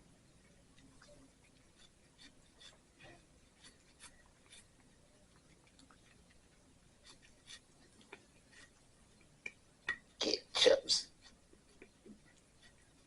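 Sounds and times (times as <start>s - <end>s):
cat gnawing on bone: 0.4s - 10.2s, 11.1s - 13.0s.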